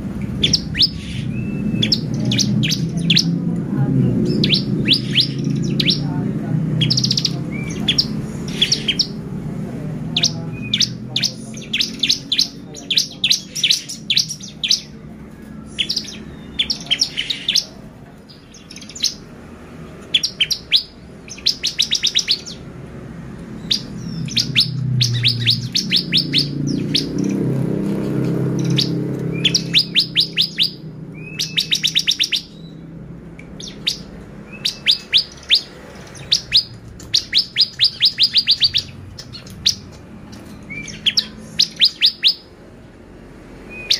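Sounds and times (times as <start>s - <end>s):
bird singing high chipping notes: 0.0s - 3.5s, 4.1s - 9.4s, 10.0s - 42.6s.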